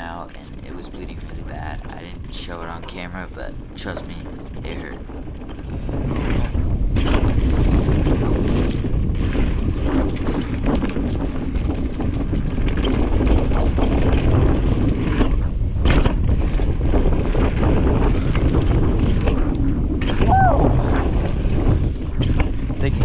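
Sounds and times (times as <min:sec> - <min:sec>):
bike rattling and clicking: 0:00.0 - 0:23.0
wind on microphone: 0:00.0 - 0:23.0.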